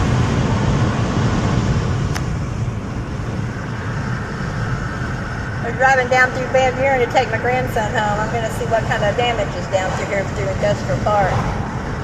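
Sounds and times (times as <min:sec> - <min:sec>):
road and engine noise in vehicle: 0:00.0 - 0:12.0.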